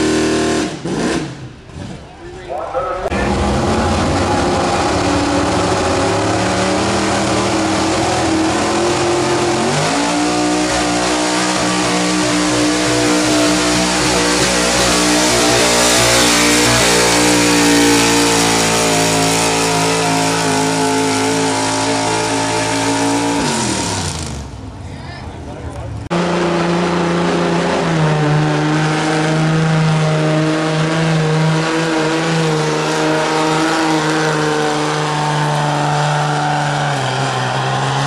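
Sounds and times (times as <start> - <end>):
truck engine running flat out: 0.0 - 24.8, 25.4 - 38.0.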